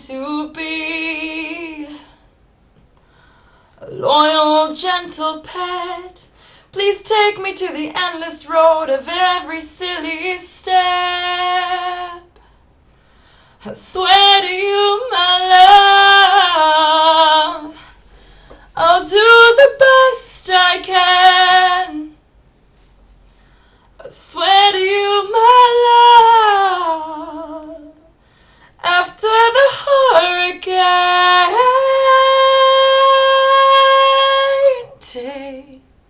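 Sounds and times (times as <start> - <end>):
woman singing unaccompanied: 0.0 - 2.2, 3.8 - 12.4, 13.6 - 17.9, 18.7 - 22.2, 24.0 - 28.1, 28.8 - 35.9.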